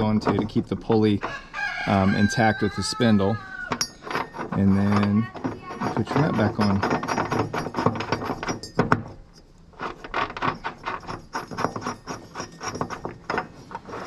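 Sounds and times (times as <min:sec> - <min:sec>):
metal nut clicking and scraping: 0:00.0 - 0:03.0, 0:03.6 - 0:14.0.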